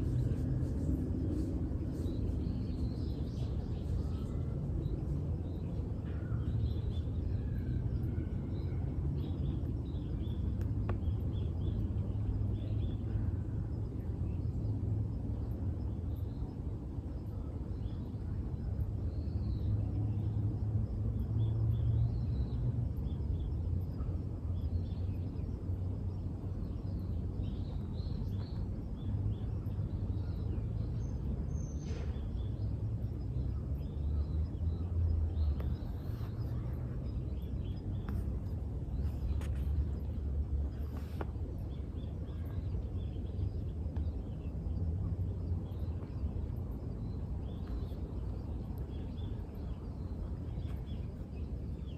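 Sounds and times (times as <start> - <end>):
low outdoor rumble: 0.0 - 51.9.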